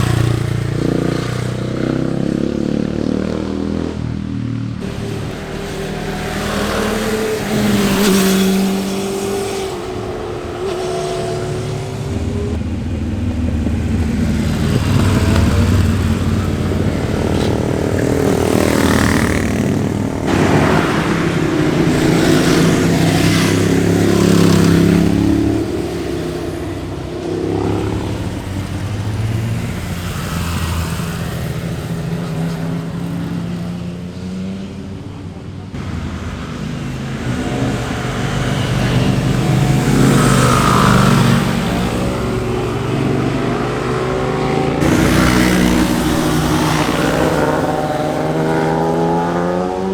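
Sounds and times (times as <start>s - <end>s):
motorcycles passing at speed: 0.0s - 49.9s.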